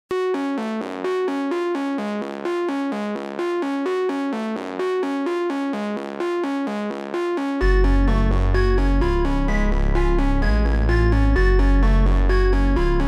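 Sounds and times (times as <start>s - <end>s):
electronic keyboard arpeggio: 0.1s - 13.0s.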